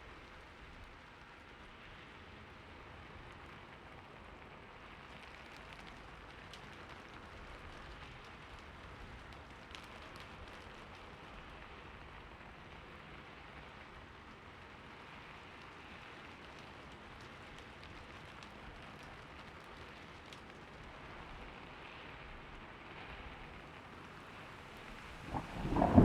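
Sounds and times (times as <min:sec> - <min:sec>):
faint rain falling: 0:00.0 - 0:26.0.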